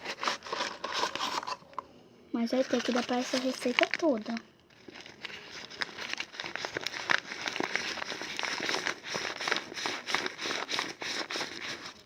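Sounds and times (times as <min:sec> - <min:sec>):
packaging crinkling: 0:00.0 - 0:01.8, 0:02.6 - 0:12.0.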